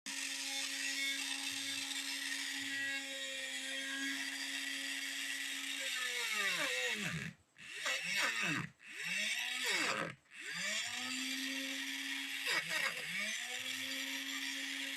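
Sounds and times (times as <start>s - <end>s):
small electric motor whining: 0.1s - 14.9s.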